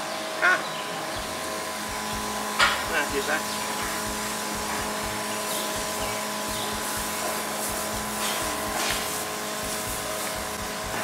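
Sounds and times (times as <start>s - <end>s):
sprayer pump humming: 0.0s - 11.0s
spray hissing from wand: 1.4s - 11.0s.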